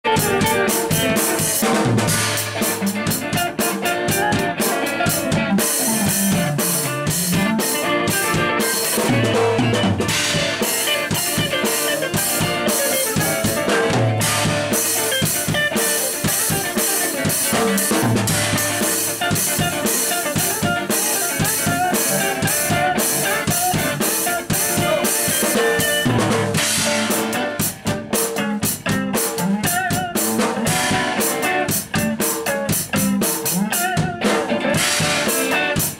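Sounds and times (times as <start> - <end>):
drum kit beat: 0.0 - 35.9.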